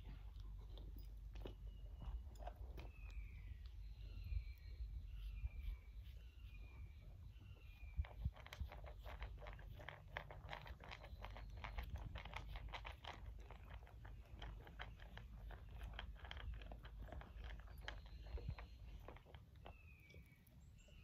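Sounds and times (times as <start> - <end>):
puppy crunching and chewing food: 0.0 - 6.2, 7.3 - 21.0.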